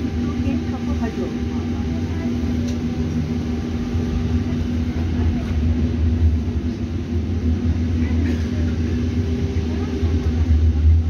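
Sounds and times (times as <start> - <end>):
tram rumbling and humming: 0.0 - 11.0.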